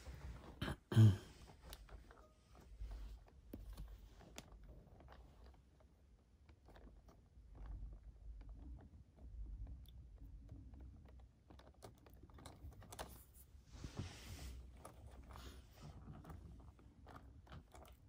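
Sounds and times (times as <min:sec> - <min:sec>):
clicks and rustling of connectors: 0:01.4 - 0:13.5, 0:14.6 - 0:18.0.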